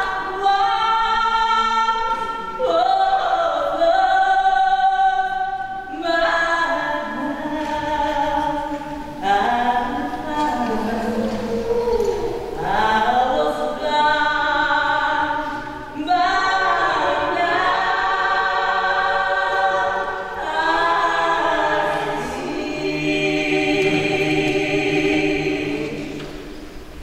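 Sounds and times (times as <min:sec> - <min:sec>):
woman singing long notes: 0:00.0 - 0:25.9
voices singing in harmony: 0:00.0 - 0:27.0.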